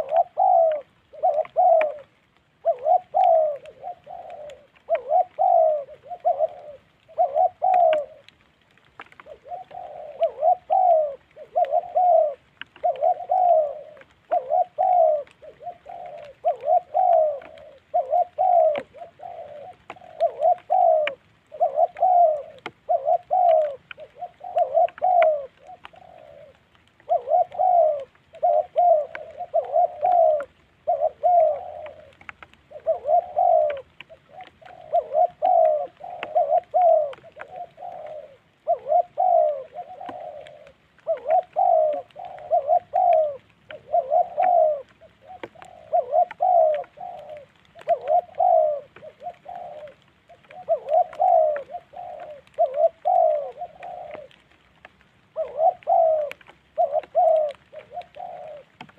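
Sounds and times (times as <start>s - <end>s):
dove cooing: 0.0s - 58.9s.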